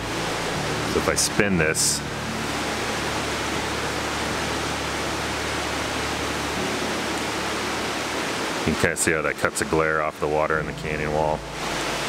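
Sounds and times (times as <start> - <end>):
water rushing over rock: 0.0 - 12.0.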